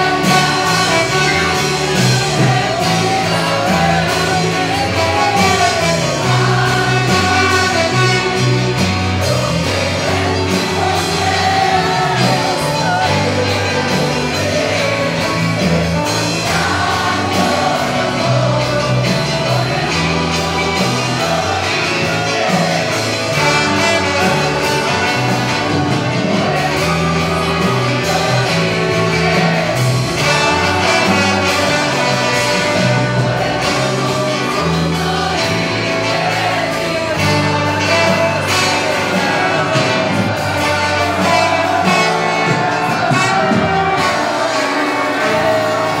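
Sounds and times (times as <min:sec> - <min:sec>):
choir singing through microphones: 0:00.0 - 0:46.0
instrumental accompaniment with bass: 0:00.0 - 0:46.0.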